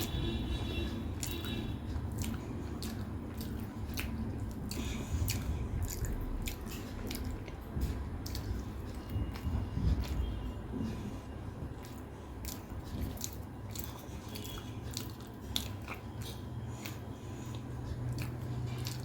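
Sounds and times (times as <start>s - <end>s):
mouth clicks and smacks: 0.0s - 19.0s
wet squishy chewing: 0.0s - 19.0s.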